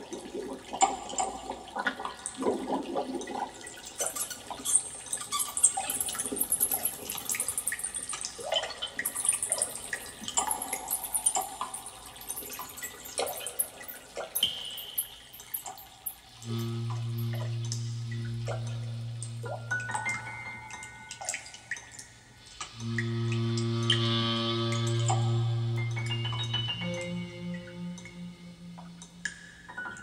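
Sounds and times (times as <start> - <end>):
water dripping and trickling: 0.0 - 30.0.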